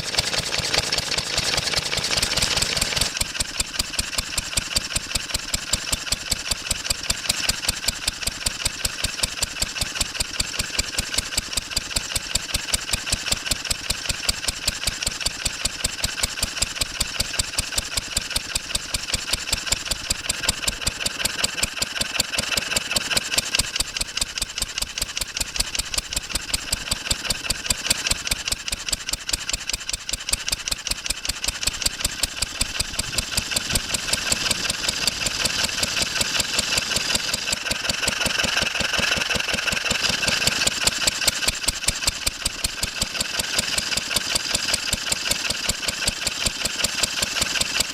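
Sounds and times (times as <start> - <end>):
stationary engine running: 0.0 - 47.9.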